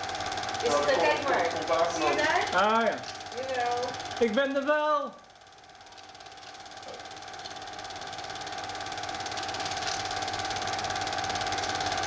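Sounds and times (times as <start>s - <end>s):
film projector clattering: 0.0s - 12.0s
projector hum: 0.0s - 12.0s.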